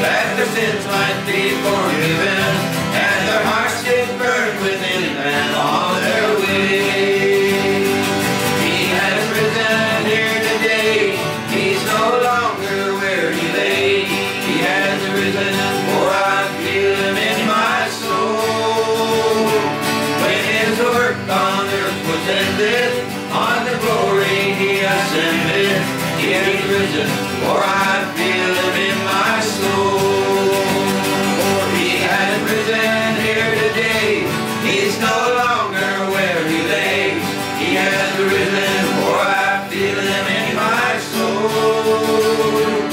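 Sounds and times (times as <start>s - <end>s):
acoustic guitars strummed: 0.0s - 42.9s
men singing in harmony: 0.0s - 42.9s.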